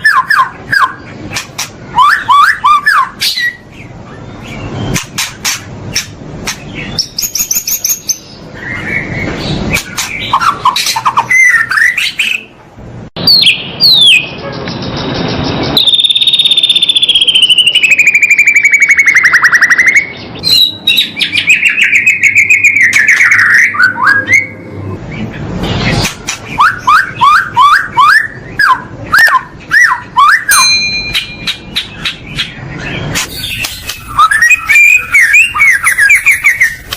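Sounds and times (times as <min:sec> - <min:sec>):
songbird singing: 0:00.0 - 0:12.6, 0:13.2 - 0:36.9.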